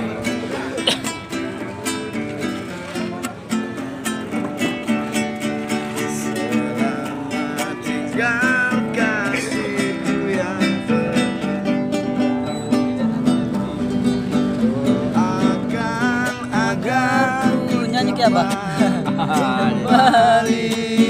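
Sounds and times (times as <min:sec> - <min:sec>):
man singing: 0:00.0 - 0:13.6, 0:14.2 - 0:21.0
nylon-string guitar strumming: 0:00.0 - 0:21.0.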